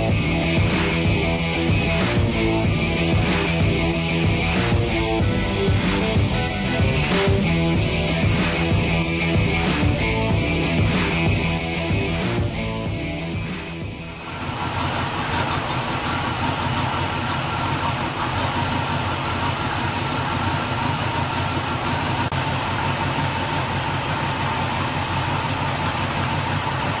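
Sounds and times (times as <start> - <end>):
pickup engine idling: 0.0 - 27.0.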